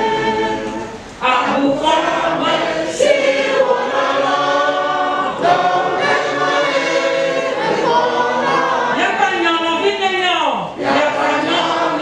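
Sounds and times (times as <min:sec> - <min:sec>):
choir singing a hymn: 0:00.0 - 0:09.4, 0:10.7 - 0:12.0.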